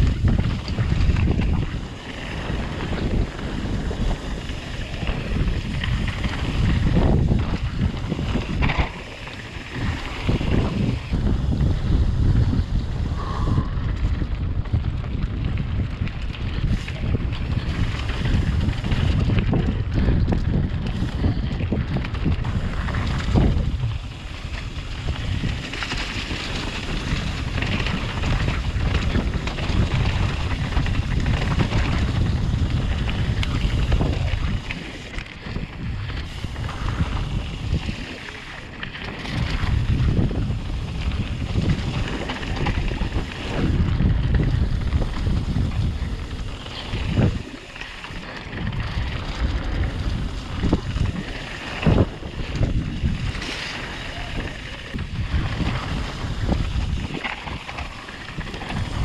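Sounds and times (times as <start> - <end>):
tyres rolling over dirt and stones: 0.0 - 12.8, 13.8 - 59.0
wind rushing over microphone: 0.0 - 59.0.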